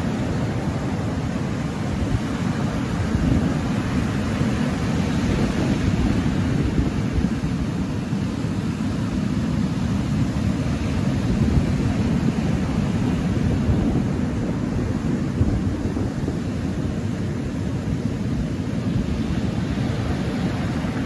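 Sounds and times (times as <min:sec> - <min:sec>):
waves breaking on shingle beach: 0:00.0 - 0:21.0.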